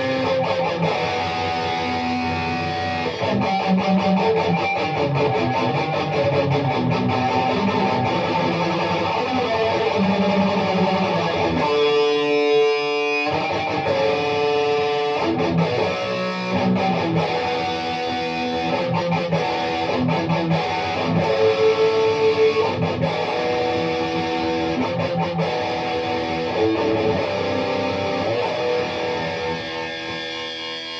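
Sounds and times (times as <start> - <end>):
electric guitar music: 0.0 - 30.9.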